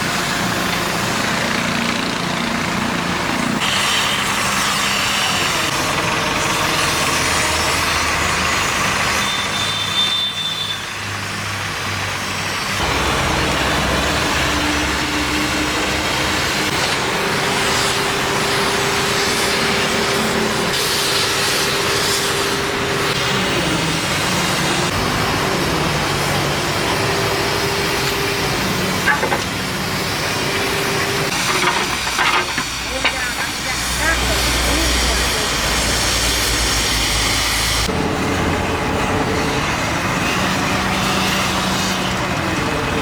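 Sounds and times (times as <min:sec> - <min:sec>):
heavy machine engine running: 0:00.0 - 0:10.2, 0:11.0 - 0:43.0.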